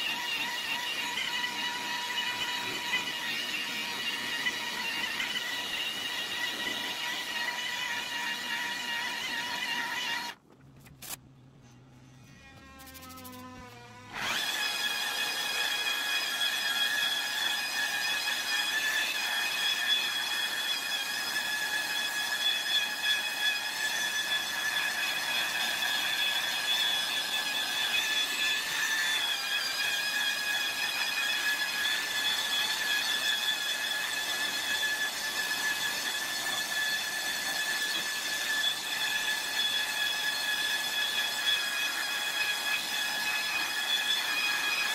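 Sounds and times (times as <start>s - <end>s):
electric polisher whining: 0.0s - 10.4s, 11.0s - 44.9s.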